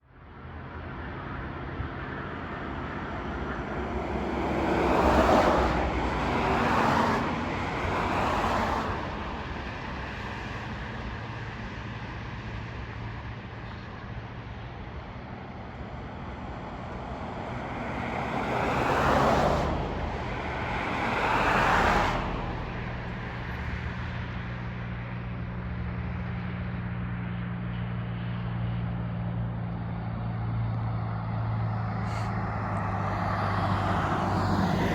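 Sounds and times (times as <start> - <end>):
road vehicles passing by: 0.1 - 34.9
low steady engine hum: 0.2 - 34.9.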